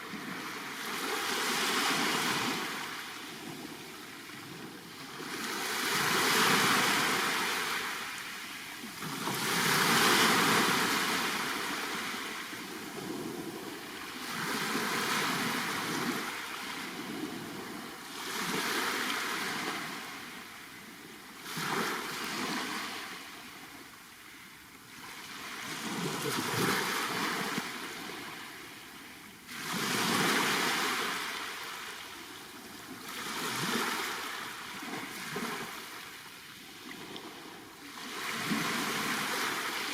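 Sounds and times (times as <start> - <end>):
waves breaking on shore: 0.0 - 20.6, 21.4 - 23.4, 24.9 - 28.9, 29.5 - 39.9.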